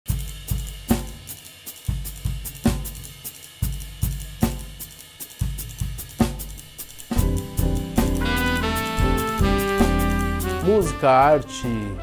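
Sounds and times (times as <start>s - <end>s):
drum kit groove: 0.0s - 12.0s.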